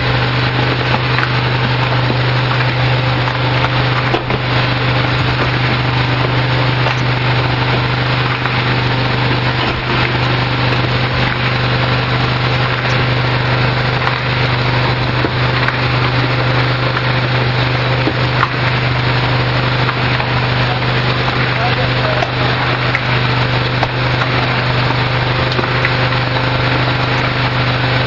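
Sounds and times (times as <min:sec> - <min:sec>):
mixer humming with gritty rattle: 0:00.0 - 0:28.0.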